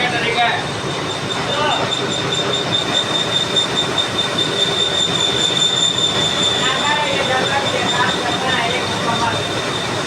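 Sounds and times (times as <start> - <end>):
metal lathe running: 0.0 - 10.0
cutting tool high-pitched squeal: 0.7 - 10.0.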